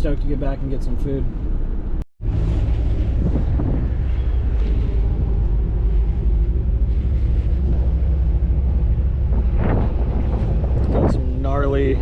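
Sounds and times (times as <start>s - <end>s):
ship engines droning: 0.0s - 12.0s
wind buffeting microphone: 0.1s - 12.0s.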